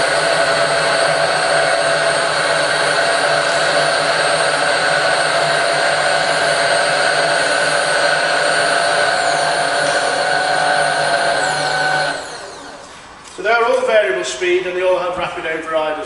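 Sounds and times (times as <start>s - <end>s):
milling machine motors whining: 0.0s - 13.4s.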